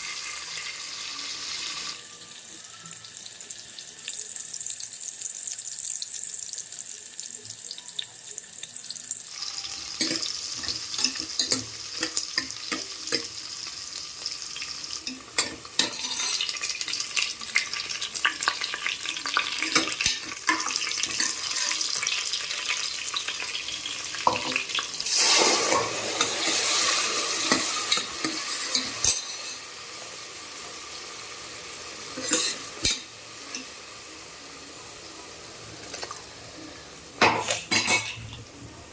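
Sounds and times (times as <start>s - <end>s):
food sizzling in a hot pan: 0.0s - 38.9s.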